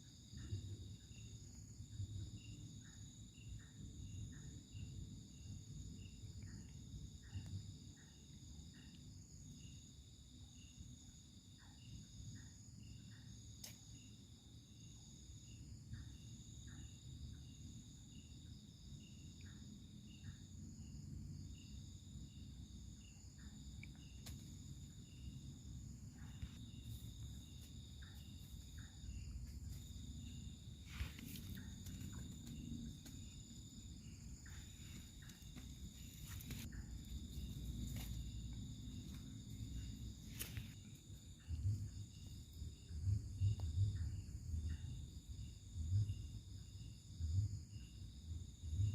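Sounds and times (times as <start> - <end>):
high insect whine: 0.0 - 48.9
insects trilling: 0.0 - 48.9.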